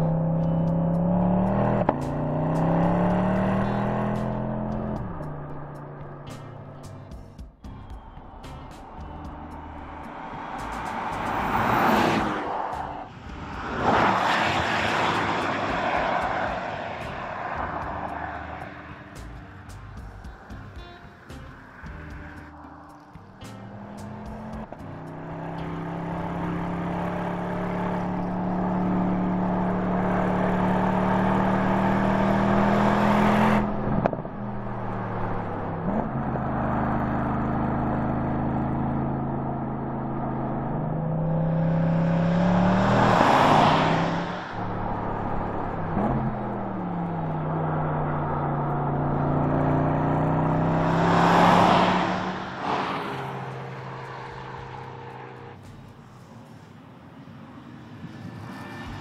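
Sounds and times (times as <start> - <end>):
car engine running: 0.0 - 56.7
car passing by: 8.0 - 39.5, 41.1 - 59.0.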